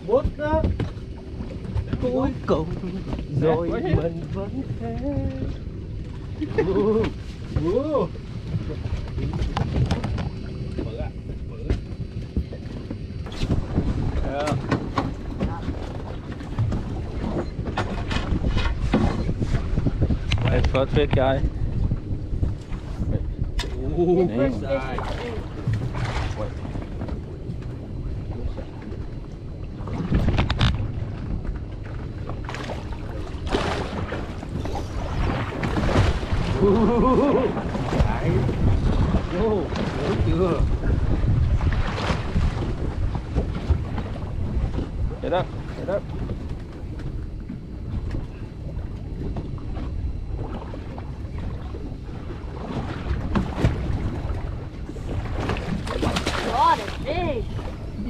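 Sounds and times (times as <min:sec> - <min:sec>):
water moving against a boat: 0:00.0 - 0:58.0
wind rumbling on microphone: 0:00.0 - 0:58.0.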